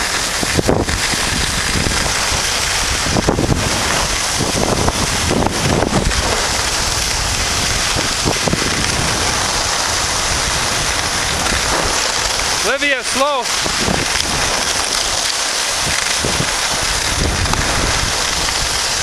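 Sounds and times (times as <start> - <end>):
skis sliding on snow: 0.0 - 19.0
wind rushing over microphone: 0.0 - 19.0.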